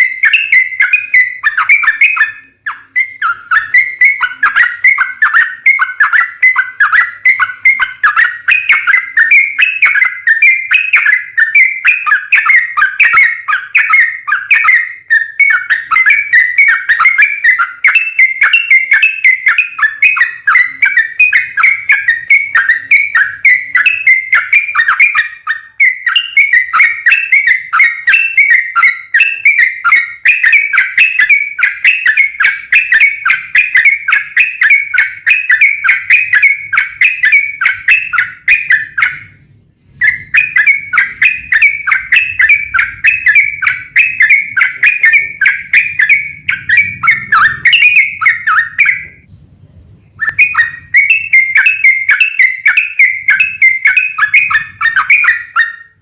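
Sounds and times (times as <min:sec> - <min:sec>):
bulbul song: 0:00.0 - 0:56.0.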